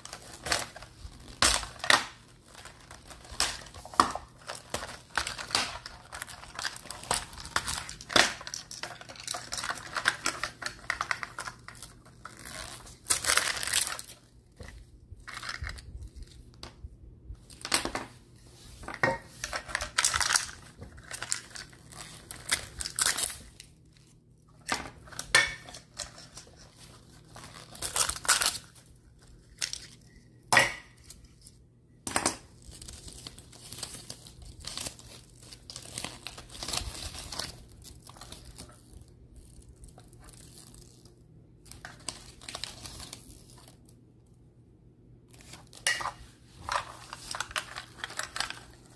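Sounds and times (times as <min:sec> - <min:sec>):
wrappers crinkling and tearing: 0:00.0 - 0:16.5, 0:19.3 - 0:31.6, 0:32.4 - 0:44.0, 0:45.3 - 0:48.9.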